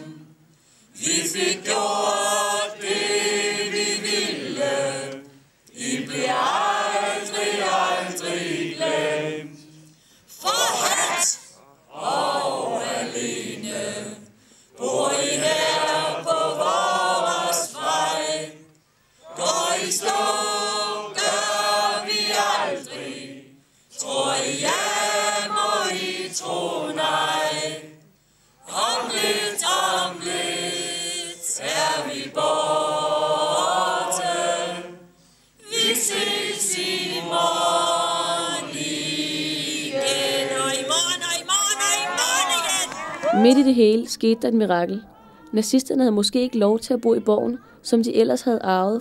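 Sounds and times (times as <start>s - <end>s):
crowd singing together: 0.0s - 43.1s.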